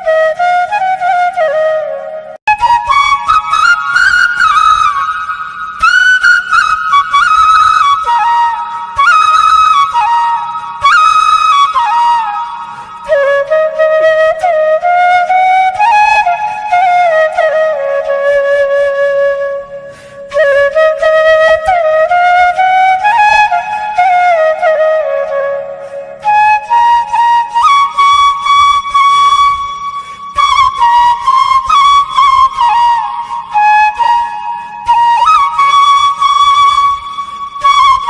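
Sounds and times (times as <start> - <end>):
instrumental melody with gliding notes: 0.0 - 38.0.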